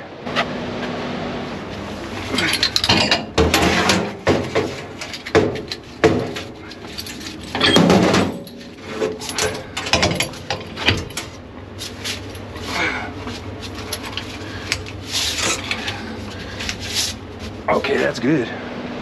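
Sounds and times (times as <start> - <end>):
metal hose couplings clanking: 2.2 - 18.2.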